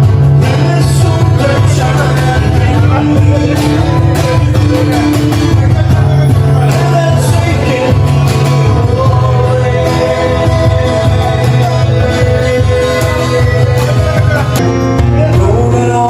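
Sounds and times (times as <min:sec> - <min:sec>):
song with sung melody: 0:00.0 - 0:16.0
steady bass line: 0:00.0 - 0:16.0.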